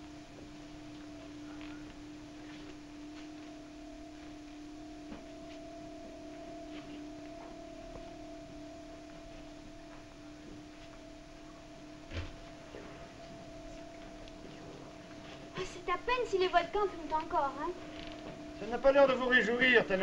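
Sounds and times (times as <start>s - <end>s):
steady two-tone hum: 0.0s - 20.0s.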